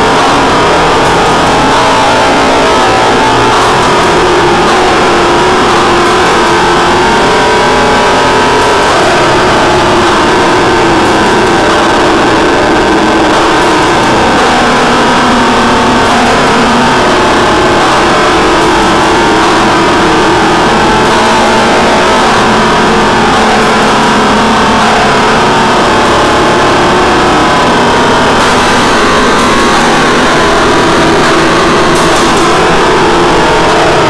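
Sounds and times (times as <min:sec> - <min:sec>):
distorted noise music: 0:00.0 - 0:34.0
wavering droning tones: 0:00.0 - 0:34.0.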